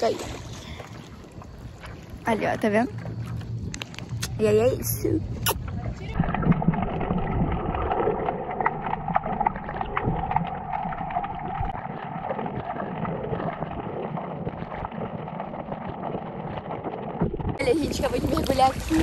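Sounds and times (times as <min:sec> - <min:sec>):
muffled underwater water noise: 0:00.0 - 0:19.0.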